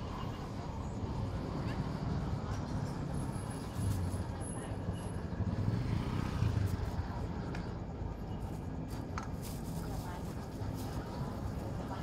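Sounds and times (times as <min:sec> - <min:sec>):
passing traffic rumble: 0:00.0 - 0:12.0.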